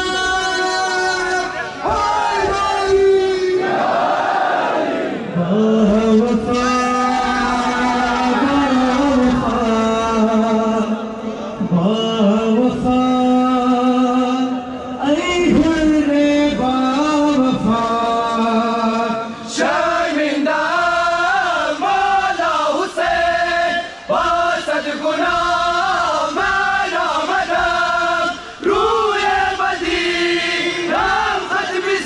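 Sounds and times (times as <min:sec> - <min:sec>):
men chanting a lament in chorus: 0:00.0 - 0:32.0.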